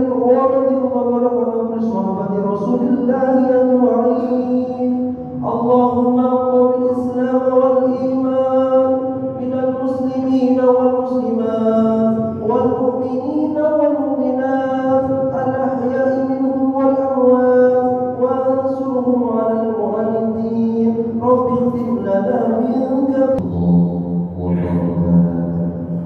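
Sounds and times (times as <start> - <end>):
man chanting: 0.0 - 26.0.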